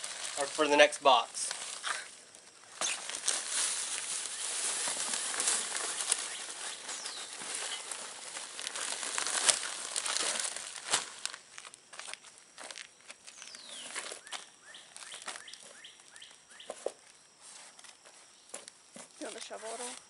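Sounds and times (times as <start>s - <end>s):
plastic bag crinkling: 0.0s - 16.2s.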